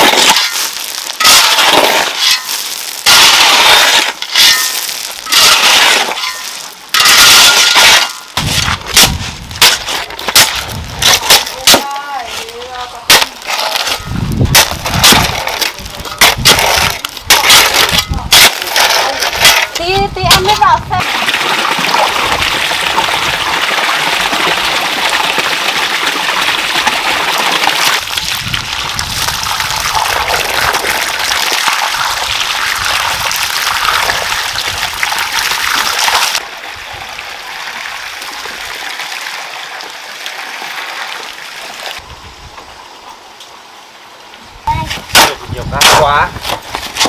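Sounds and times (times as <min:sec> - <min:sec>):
water gushing and splashing: 0:00.0 - 0:42.1.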